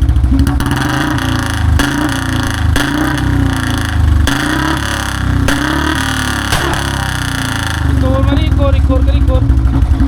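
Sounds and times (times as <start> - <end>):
exhaust backfire pops: 0.0 - 8.6
motorcycle engine revving: 0.0 - 10.0.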